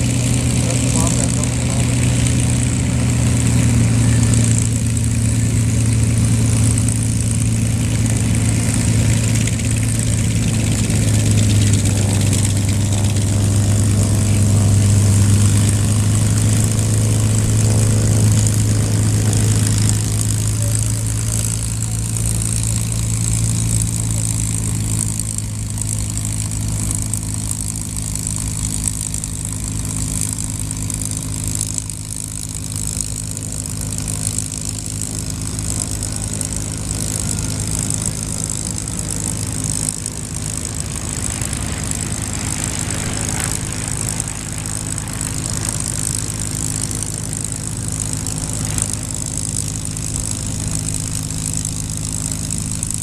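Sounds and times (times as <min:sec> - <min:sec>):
propeller aircraft engine idling: 0:00.0 - 0:53.0.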